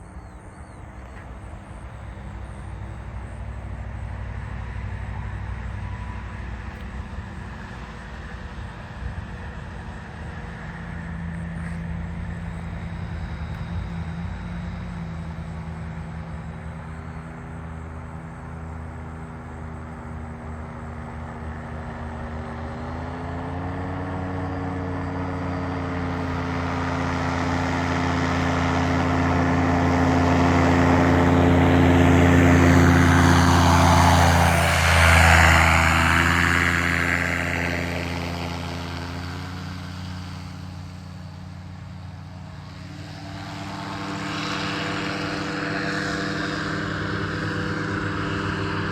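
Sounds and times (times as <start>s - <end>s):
propeller airplane engine drone: 0.0s - 48.9s.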